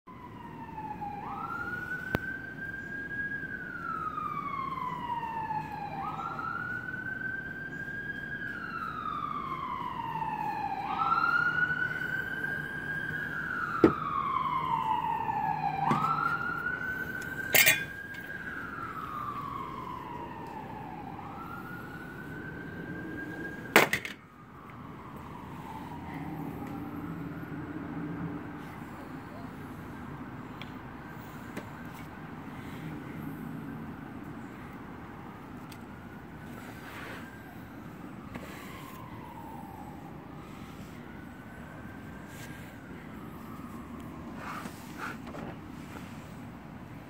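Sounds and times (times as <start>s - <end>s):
emergency siren wailing: 0.1s - 47.0s.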